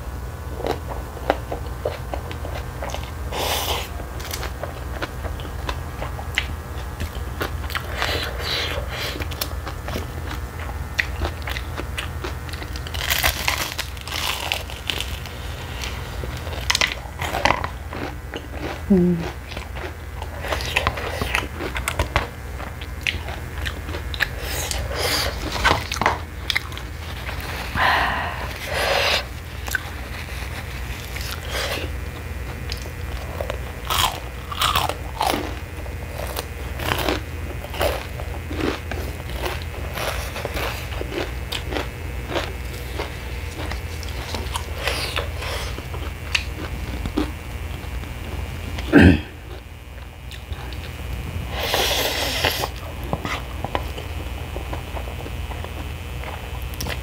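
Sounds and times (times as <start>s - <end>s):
steady low hum: 0.0s - 57.0s
chewing and biting noodles: 0.6s - 50.9s.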